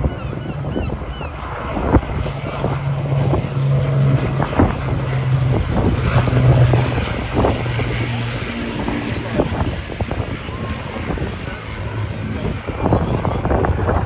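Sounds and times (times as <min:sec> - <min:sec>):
aircraft engines droning: 0:00.0 - 0:14.0
wind rumbling on microphone: 0:00.0 - 0:14.0.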